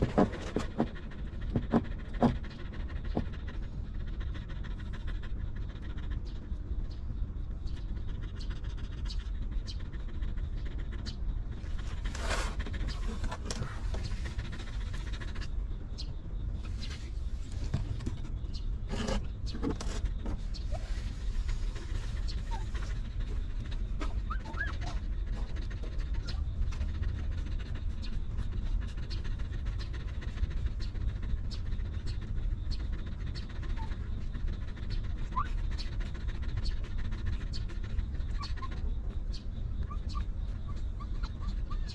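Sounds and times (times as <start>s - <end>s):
dog panting: 0.0s - 41.9s.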